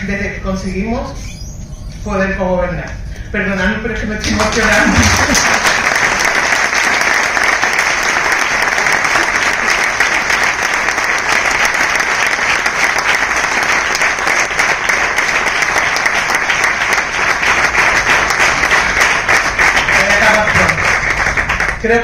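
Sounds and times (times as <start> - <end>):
audience applauding: 4.2 - 22.0.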